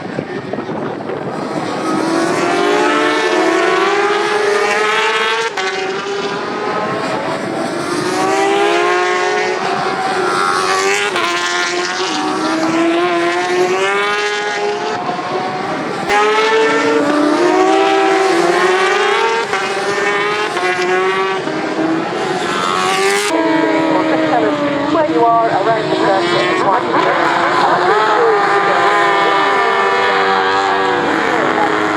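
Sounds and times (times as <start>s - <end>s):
superbike engines revving: 0.0s - 31.9s.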